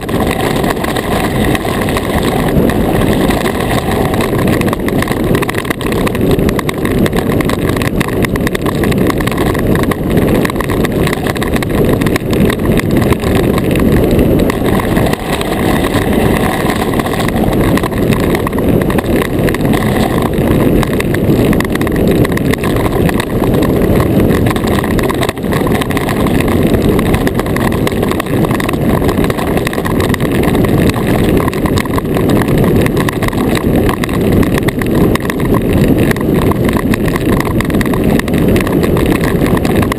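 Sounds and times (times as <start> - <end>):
iceboat runners rumbling on ice: 0.0 - 39.9.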